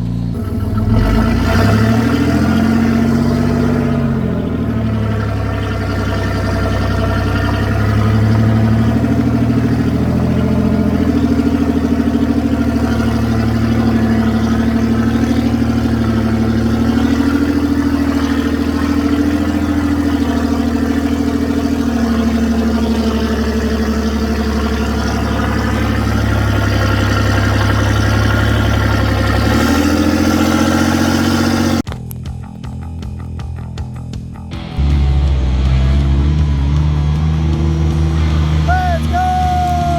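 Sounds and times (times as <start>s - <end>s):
off-road engine running: 0.0s - 39.9s.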